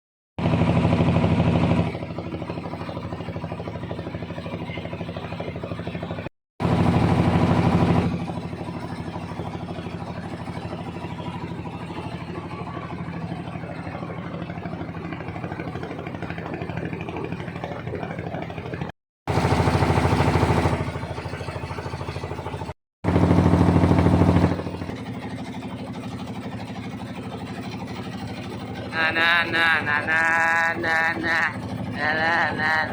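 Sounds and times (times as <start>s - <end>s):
motor engine running: 0.4s - 32.9s.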